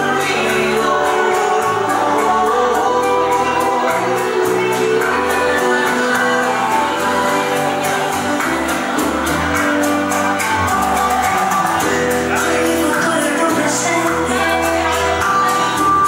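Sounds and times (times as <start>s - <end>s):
percussion beat and bass: 0.0s - 16.0s
person singing: 0.0s - 16.0s.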